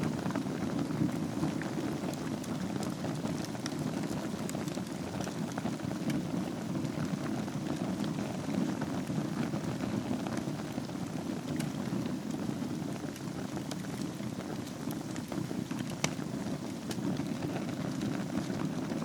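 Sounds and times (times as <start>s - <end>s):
fire crackling and popping: 0.0s - 19.0s
low rush of flames: 0.0s - 19.0s.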